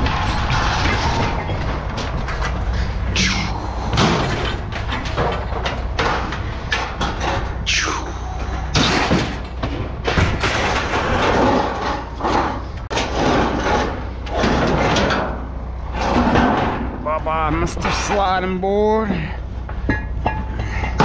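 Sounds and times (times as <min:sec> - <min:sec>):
scrap metal clanking: 0:00.0 - 0:17.0, 0:19.1 - 0:21.0
metal scraping: 0:00.0 - 0:18.6
steady low hum: 0:00.0 - 0:21.0.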